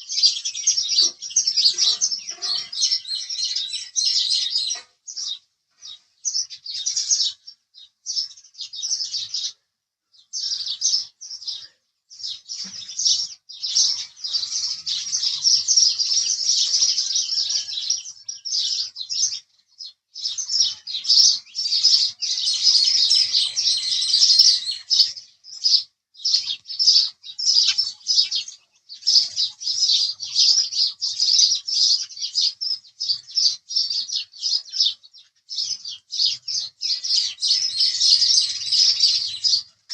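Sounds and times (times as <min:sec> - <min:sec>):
sparrow chirping: 0:00.0 - 0:39.9.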